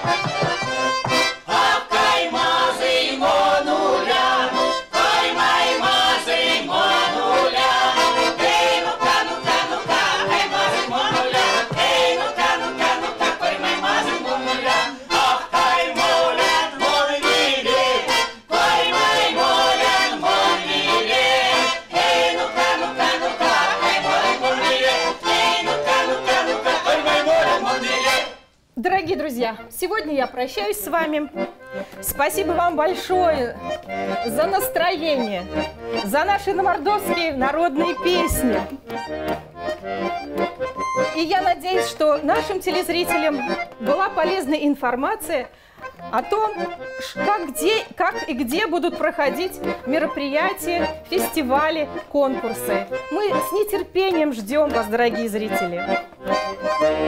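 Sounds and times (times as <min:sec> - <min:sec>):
women singing folk songs: 0:00.0 - 0:39.0, 0:41.0 - 0:57.0
button accordion: 0:00.0 - 0:57.0.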